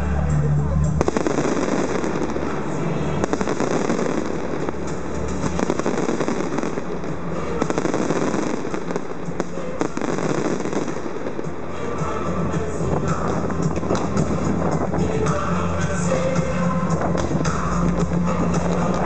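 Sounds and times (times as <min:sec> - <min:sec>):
fireworks popping and crackling: 0:01.0 - 0:12.0, 0:12.7 - 0:15.3, 0:16.5 - 0:19.0.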